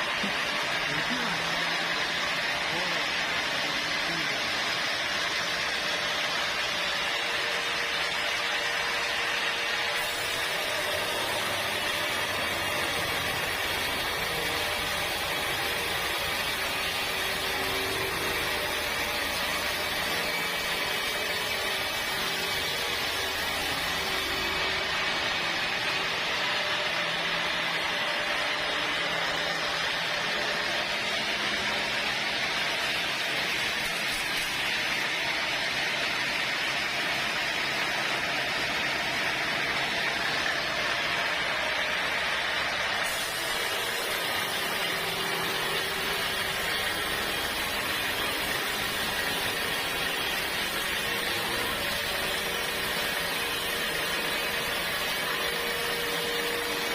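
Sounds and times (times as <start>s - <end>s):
sawmill saw running: 0.0s - 56.9s.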